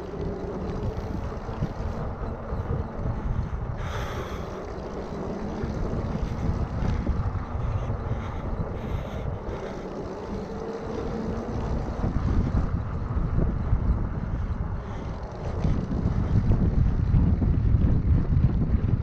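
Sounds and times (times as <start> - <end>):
faint steady hum: 0.0 - 19.0
tyres rolling on asphalt: 0.0 - 19.0
wind buffeting microphone: 0.0 - 19.0.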